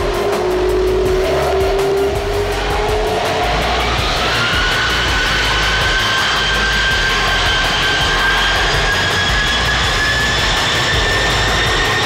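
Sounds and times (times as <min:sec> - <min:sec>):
jet engines whining: 0:00.0 - 0:12.0
rushing roar: 0:00.0 - 0:12.0.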